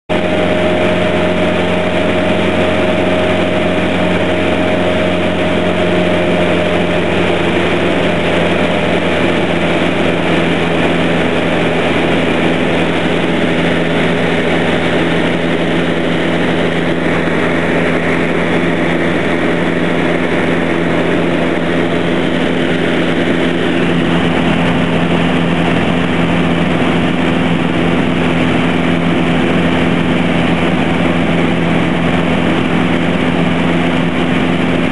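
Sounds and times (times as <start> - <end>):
light aircraft engine droning: 0.1 - 34.9.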